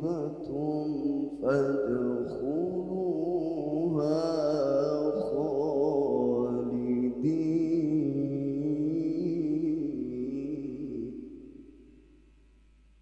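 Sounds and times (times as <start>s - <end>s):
man reciting into a microphone: 0.0s - 11.5s.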